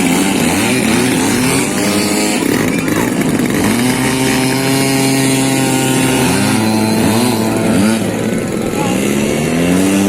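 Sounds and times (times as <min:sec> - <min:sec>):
model plane engine and propeller: 0:00.0 - 0:10.0.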